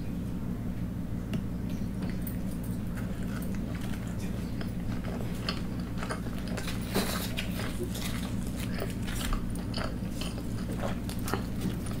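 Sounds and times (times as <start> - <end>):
steady low hum: 0.0 - 12.0
wet chewing and mouth smacks: 2.0 - 12.0.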